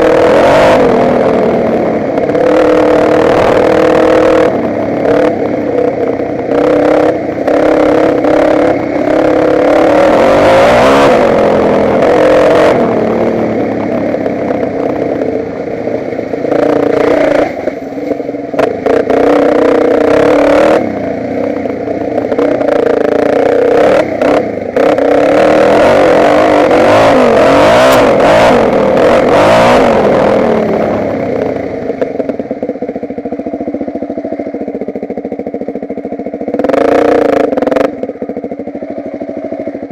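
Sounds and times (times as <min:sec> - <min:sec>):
motocross bike engine revving: 0:00.0 - 0:32.8, 0:36.2 - 0:38.4.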